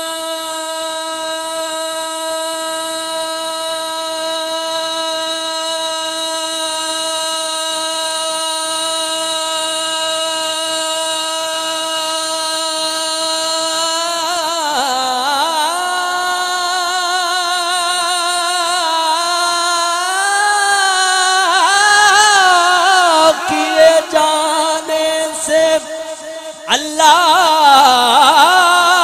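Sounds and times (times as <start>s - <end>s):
man chanting over loudspeaker: 0.0s - 29.0s.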